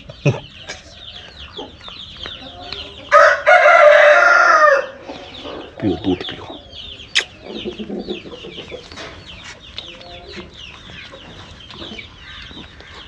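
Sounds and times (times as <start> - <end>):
chicks peeping: 0.0 - 13.0
hens clucking: 0.0 - 13.0.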